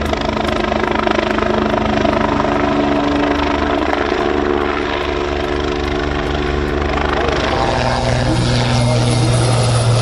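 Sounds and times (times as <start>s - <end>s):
helicopter rotor beat: 0.0s - 10.0s
turbine whine: 0.0s - 10.0s.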